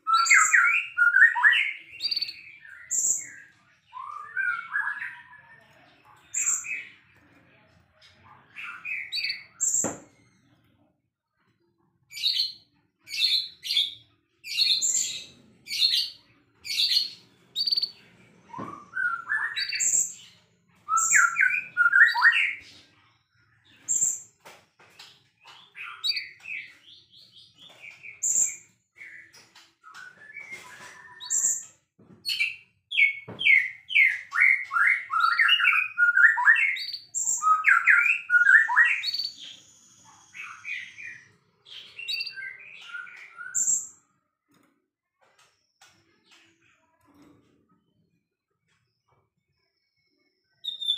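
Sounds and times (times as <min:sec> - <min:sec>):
bird singing and warbling: 0:00.0 - 0:07.2, 0:08.1 - 0:10.7, 0:12.1 - 0:22.9, 0:23.6 - 0:44.7, 0:50.5 - 0:50.9.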